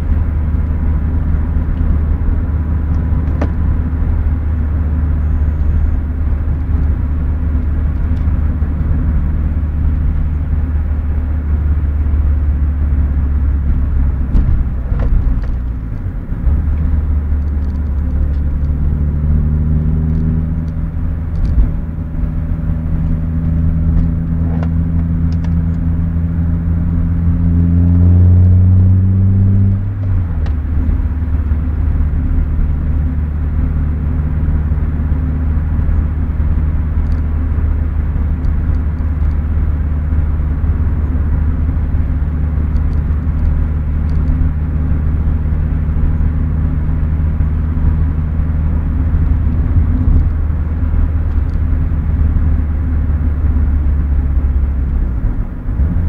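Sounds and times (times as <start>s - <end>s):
car engine accelerating: 0.0s - 56.0s
road rumble: 0.0s - 56.0s.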